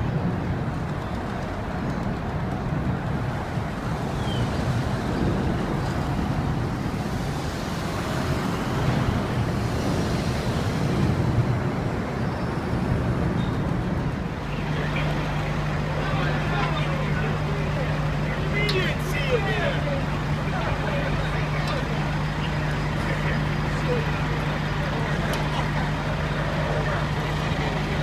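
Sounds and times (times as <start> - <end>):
fire truck engines rumbling: 0.0 - 28.0
street noise: 0.0 - 28.0.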